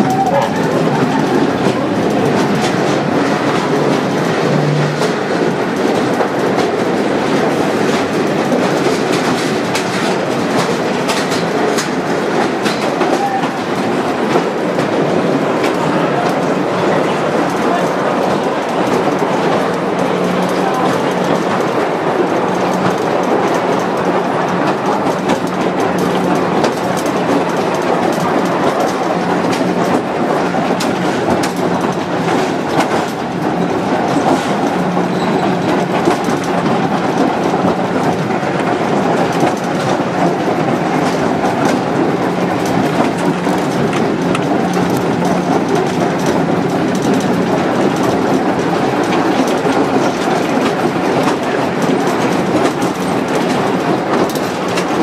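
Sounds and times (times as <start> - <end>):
railway car rattling: 0.0 - 55.0
wheels clicking over rail joints: 0.0 - 55.0.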